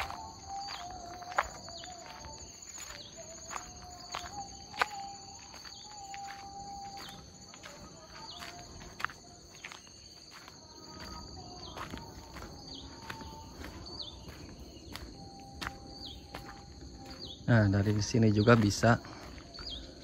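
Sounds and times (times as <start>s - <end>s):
footsteps on stony dirt: 0.0s - 20.0s
insect drone: 0.0s - 20.0s.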